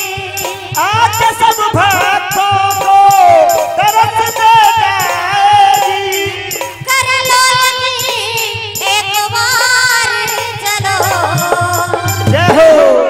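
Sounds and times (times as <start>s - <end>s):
devotional song sung into microphones: 0.0s - 13.0s
high jingling percussion: 0.0s - 13.0s
steady low drum beat: 0.0s - 13.0s.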